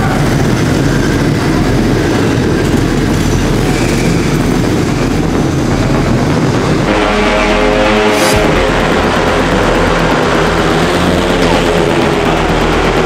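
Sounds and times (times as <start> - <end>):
motorcycle engines running loudly: 0.0 - 13.0.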